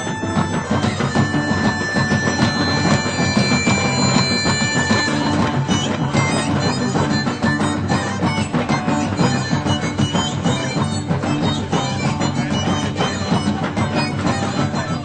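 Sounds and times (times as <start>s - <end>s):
keyboard: 0.0s - 15.0s
reedy wind instrument melody: 0.0s - 15.0s
steady drum beat: 0.0s - 15.0s.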